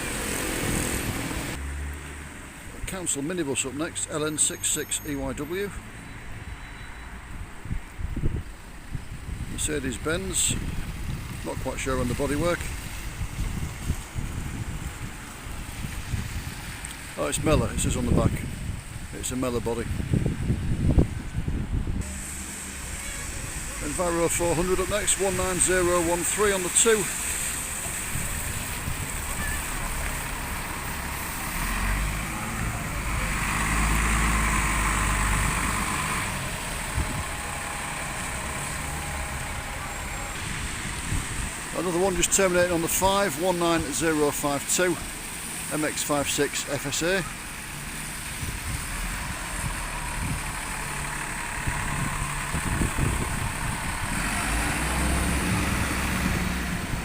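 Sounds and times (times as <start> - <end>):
bus engine passing by: 0.0 - 57.0
wind and rain hiss: 0.0 - 57.0.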